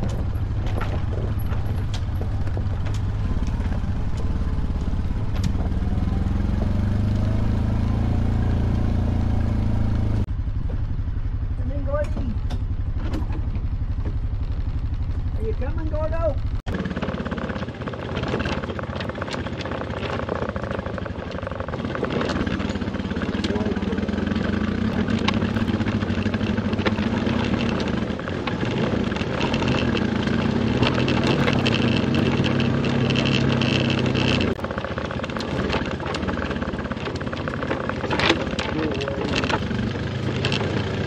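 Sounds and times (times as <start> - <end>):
rattles and knocks: 0.0 - 8.2, 11.9 - 41.0
off-road vehicle engine: 0.0 - 41.0.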